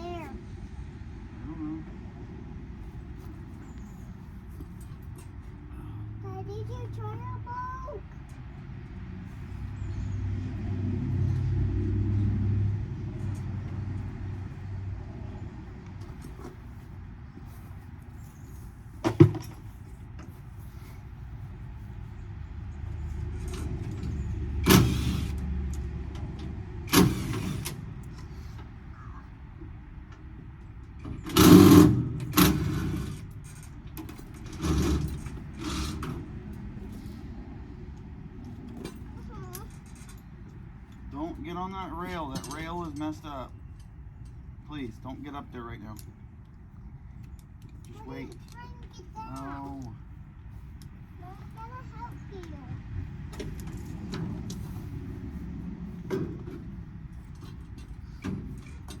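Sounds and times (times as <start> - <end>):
low engine rumble: 0.0 - 59.0.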